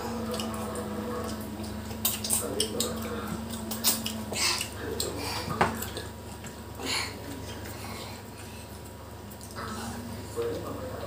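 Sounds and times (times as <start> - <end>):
chewing and lip smacking: 0.0 - 11.0.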